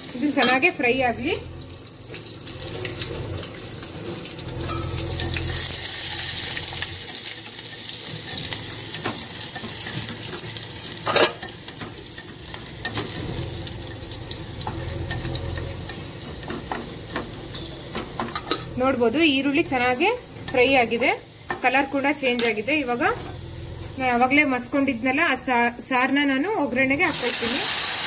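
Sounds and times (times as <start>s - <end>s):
onion sizzling in hot oil: 0.0s - 28.0s.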